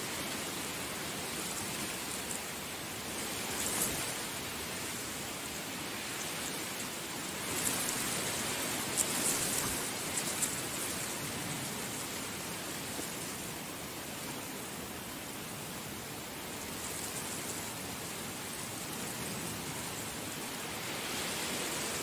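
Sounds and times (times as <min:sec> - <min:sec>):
heavy rain falling: 0:00.0 - 0:22.0
patter of raindrops: 0:00.0 - 0:22.0.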